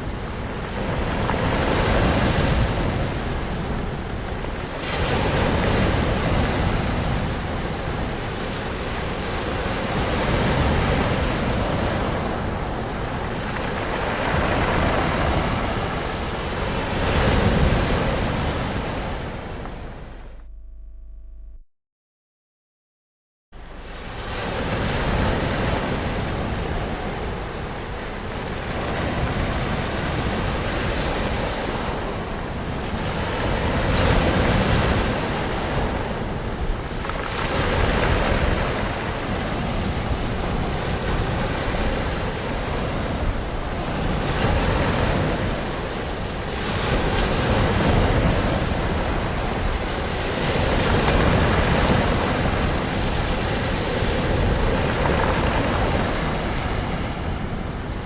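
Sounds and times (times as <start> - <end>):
ocean waves breaking: 0.0 - 20.4, 23.6 - 58.0.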